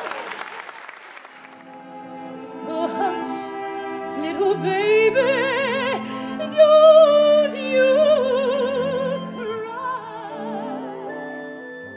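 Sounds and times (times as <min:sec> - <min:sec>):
orchestral chords: 0:01.3 - 0:11.9
operatic singing with vibrato: 0:01.6 - 0:11.9.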